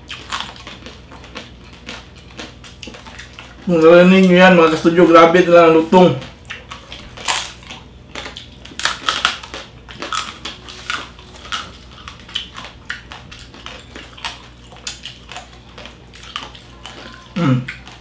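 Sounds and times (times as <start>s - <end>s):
crispy pork skin crunching: 0.0s - 18.0s.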